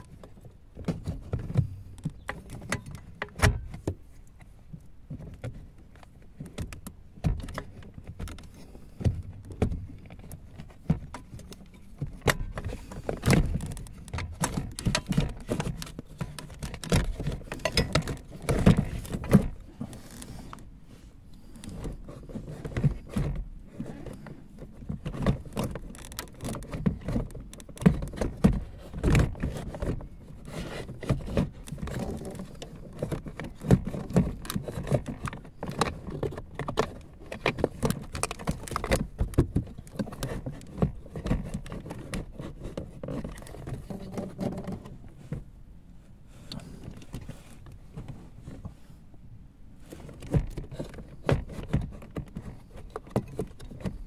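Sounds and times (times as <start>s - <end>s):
plastic and metal parts rattling: 5.1s - 20.7s, 21.5s - 45.4s, 49.8s - 54.0s.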